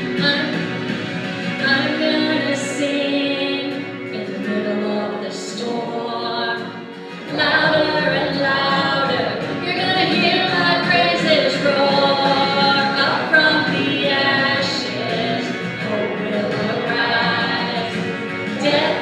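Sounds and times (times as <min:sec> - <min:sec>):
voices singing a hymn: 0:02.0 - 0:19.0.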